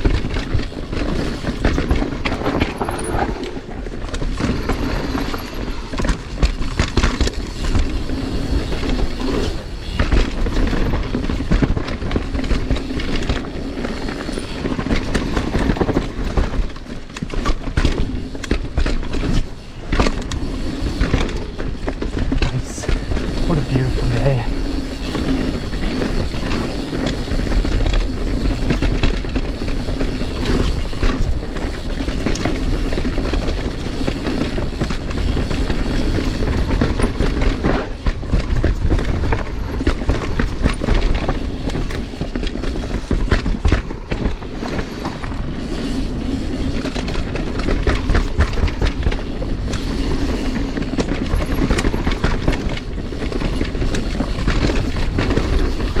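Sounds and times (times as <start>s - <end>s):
bike rattling: 0.0s - 23.5s, 24.2s - 56.0s
bike tyres rumbling on dirt: 0.0s - 56.0s.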